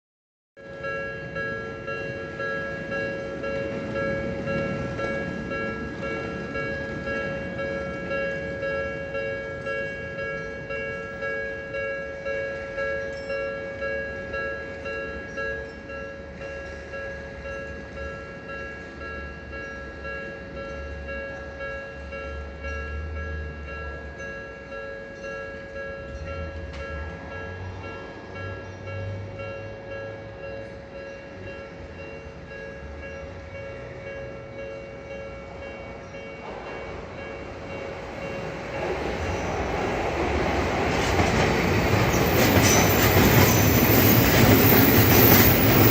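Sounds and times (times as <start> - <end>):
train rumbling: 0.6 - 45.9
two-tone crossing warning bell: 0.6 - 45.9.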